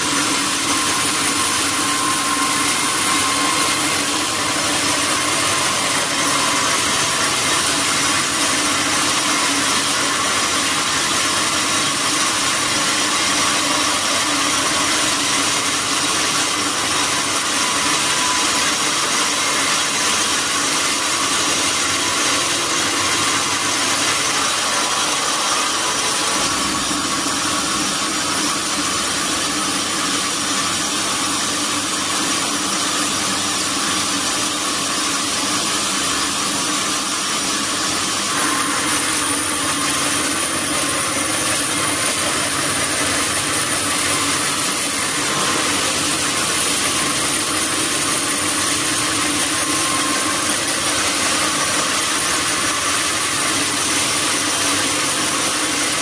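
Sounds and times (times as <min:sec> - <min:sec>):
sawmill saw cutting wood: 0:00.0 - 0:56.0.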